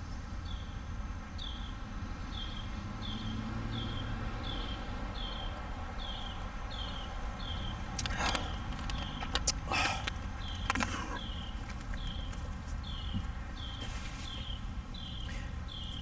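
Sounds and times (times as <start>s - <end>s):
bird chirping: 0.0s - 16.0s
low outdoor rumble: 0.0s - 16.0s.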